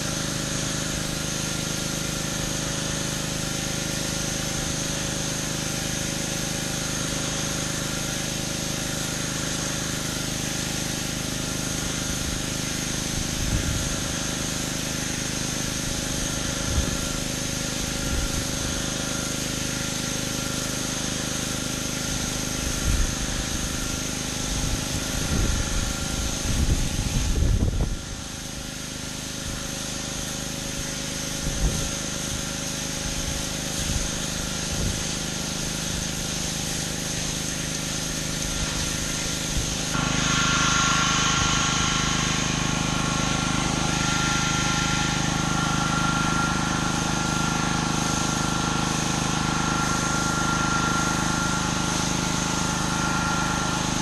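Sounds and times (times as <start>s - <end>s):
pressure washer engine running: 0.0s - 54.0s
water spray hissing: 0.0s - 54.0s.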